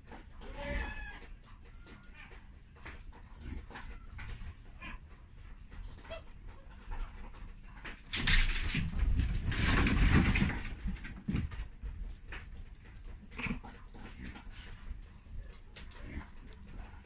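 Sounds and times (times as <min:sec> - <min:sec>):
animals scuffling and rustling: 0:00.0 - 0:17.0.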